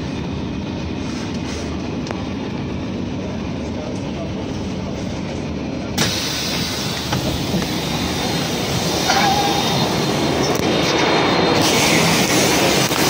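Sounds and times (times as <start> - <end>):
bus engine running: 0.0 - 13.0.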